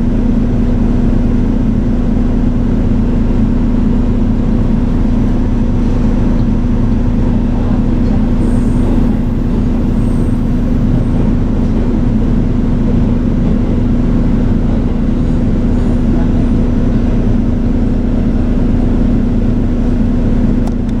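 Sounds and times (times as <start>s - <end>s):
bus engine and road noise: 0.0s - 21.0s
constant low hum: 0.0s - 21.0s.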